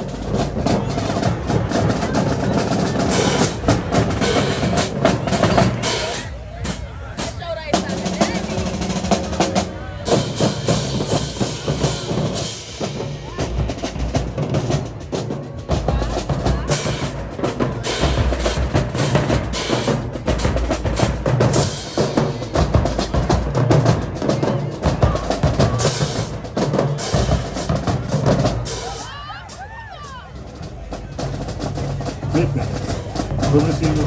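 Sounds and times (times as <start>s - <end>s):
marching drumline playing: 0.0s - 34.0s.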